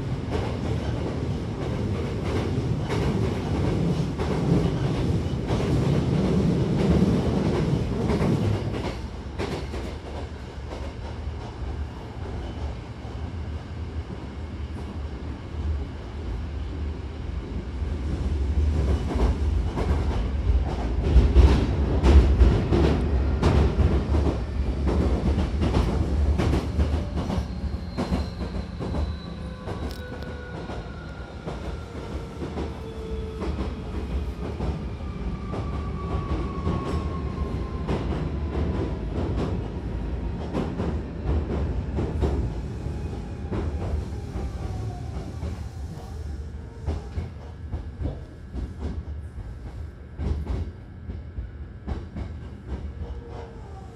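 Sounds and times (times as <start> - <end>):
electric train rumbling: 0.0 - 53.9.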